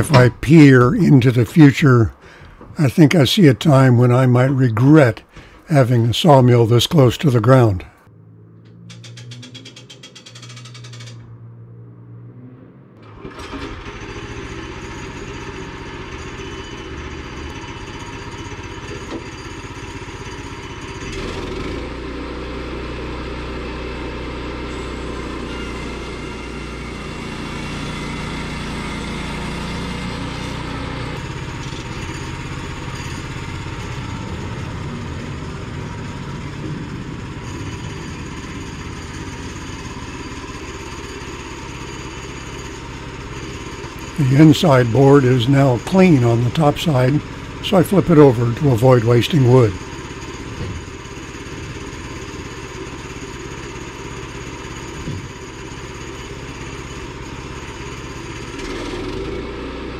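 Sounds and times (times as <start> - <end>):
sawmill engine under load: 0.0 - 11.6, 13.0 - 59.9.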